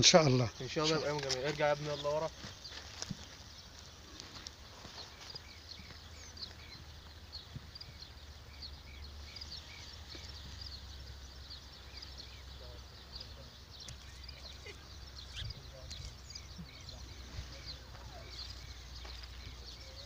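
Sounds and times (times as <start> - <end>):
high bird chirps: 0.0 - 20.0.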